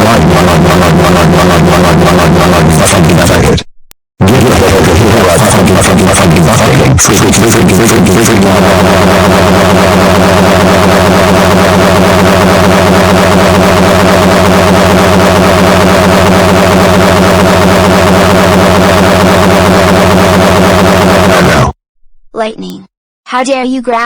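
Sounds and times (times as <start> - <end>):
distorted electronic music: 0.0 - 3.6, 4.2 - 21.8.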